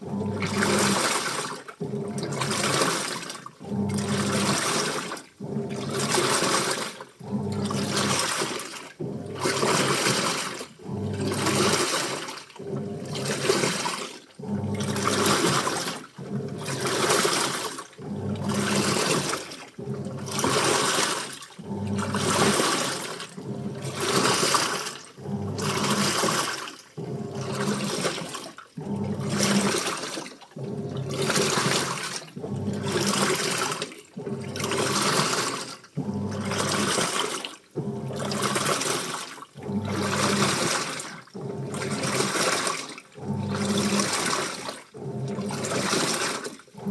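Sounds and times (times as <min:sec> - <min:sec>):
washing machine motor hum: 0:00.0 - 0:46.9
water and clothes sloshing: 0:00.0 - 0:46.9.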